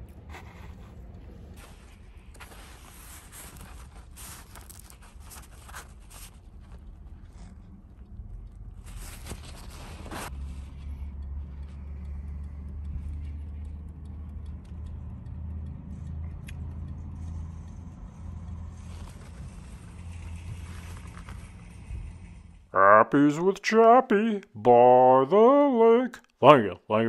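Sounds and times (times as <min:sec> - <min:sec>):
car engine idling: 0:00.0 - 0:22.7.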